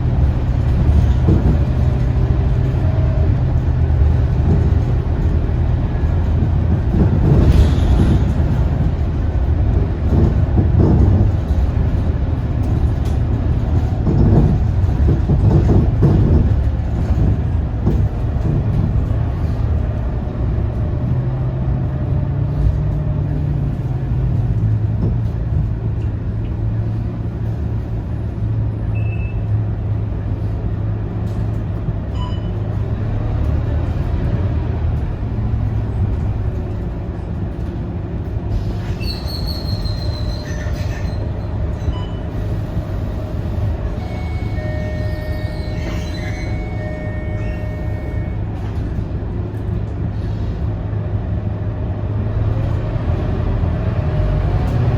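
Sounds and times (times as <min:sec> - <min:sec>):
bus diesel engine running: 0:00.0 - 0:54.9
road and drivetrain noise: 0:00.0 - 0:54.9.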